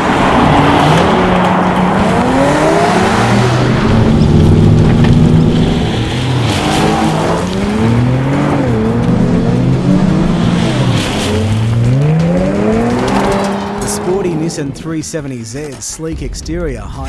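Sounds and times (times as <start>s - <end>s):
sports car engine revving: 0.0s - 15.0s.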